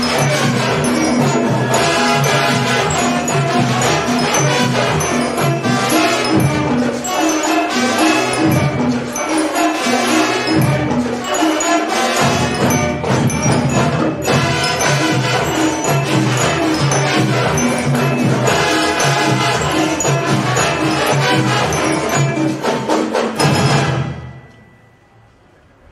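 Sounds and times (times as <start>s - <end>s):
brass instruments: 0.0s - 24.6s
drums and percussion: 0.0s - 25.5s.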